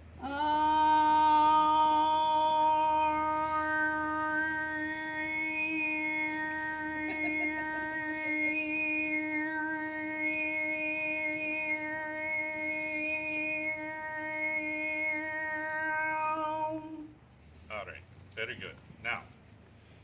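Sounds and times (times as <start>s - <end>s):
person singing high note: 0.0s - 17.2s.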